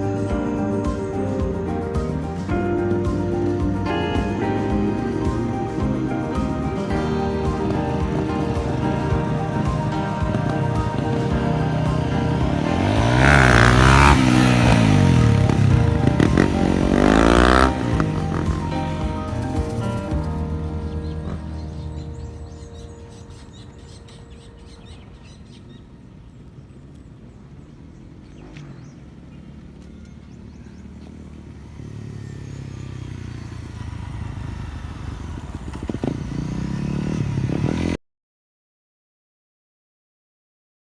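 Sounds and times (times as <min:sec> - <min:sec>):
motorcycle engine revving: 0:00.0 - 0:24.4, 0:26.1 - 0:38.0.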